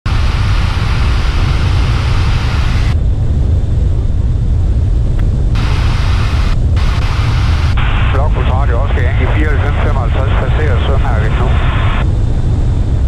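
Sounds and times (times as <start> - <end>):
aircraft engine and propeller drone: 0.1 - 13.0.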